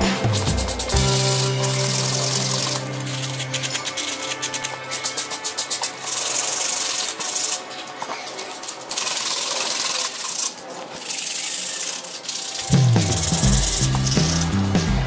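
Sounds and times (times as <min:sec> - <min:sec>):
sandpaper rubbing on foam: 0:00.2 - 0:14.6.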